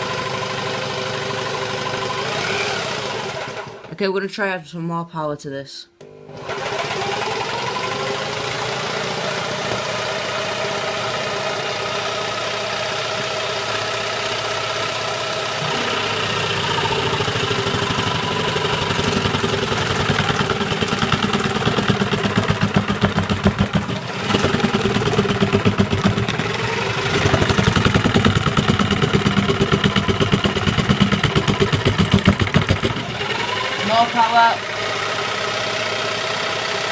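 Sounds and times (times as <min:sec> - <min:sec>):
jigsaw cutting wood: 0:00.0 - 0:03.9, 0:06.0 - 0:36.9.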